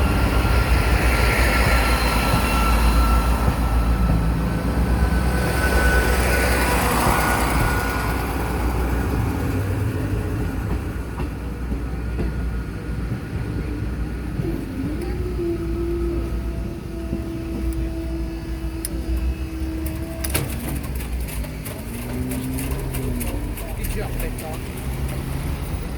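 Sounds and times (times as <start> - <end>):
train rumbling past: 0.0 - 25.9.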